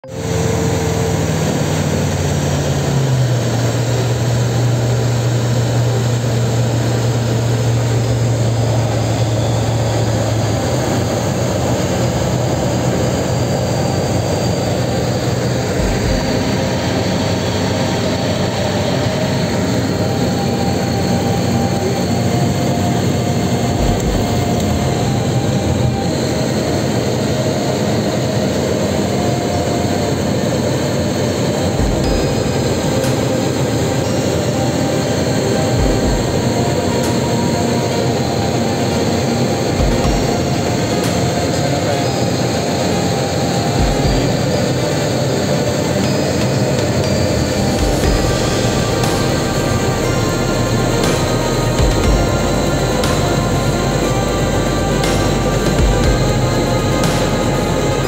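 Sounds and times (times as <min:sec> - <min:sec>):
aircraft engine drone: 0:00.0 - 0:58.0
airflow rush: 0:00.0 - 0:58.0.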